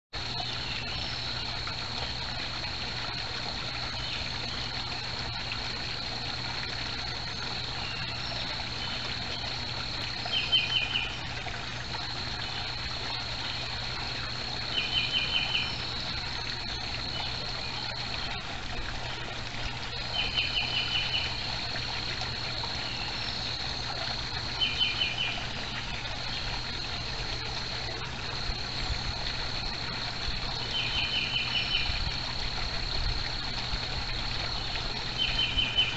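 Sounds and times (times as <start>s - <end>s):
water trickling in pond: 0.1s - 35.9s.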